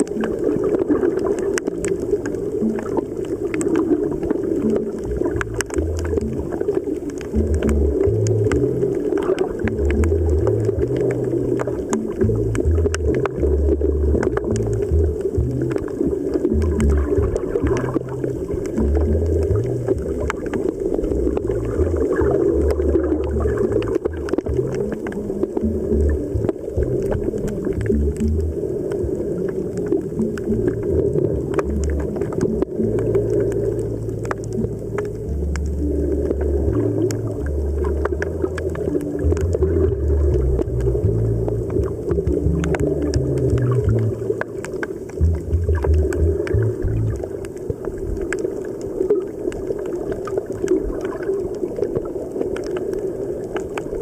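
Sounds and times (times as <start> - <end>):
faint clicks: 0.0 - 54.0
ambient music with bass drone: 0.1 - 47.6.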